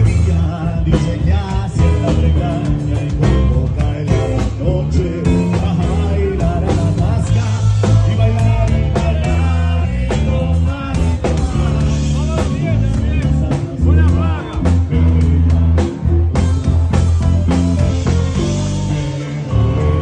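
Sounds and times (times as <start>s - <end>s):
man singing into a microphone: 0.0s - 15.9s, 18.0s - 20.0s
live band music: 0.0s - 20.0s.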